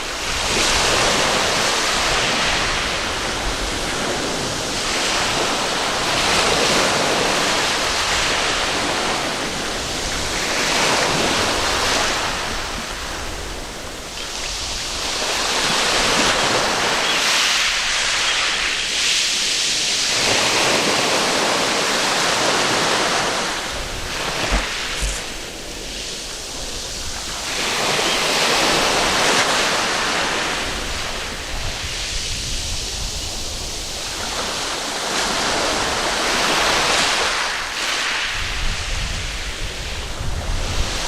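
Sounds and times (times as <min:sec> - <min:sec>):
waves breaking on a beach: 0:00.0 - 0:41.0.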